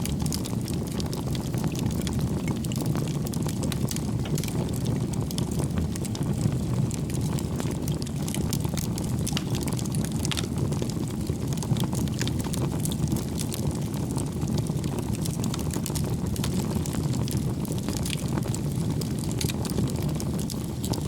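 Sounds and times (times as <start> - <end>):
fire flames rumbling: 0.0 - 21.0
firewood crackling and popping: 0.0 - 21.0.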